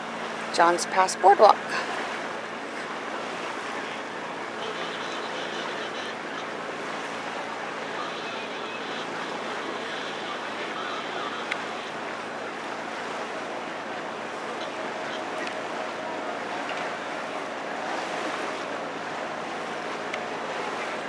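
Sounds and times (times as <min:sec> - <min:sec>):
wind and water rushing: 0:00.0 - 0:21.0.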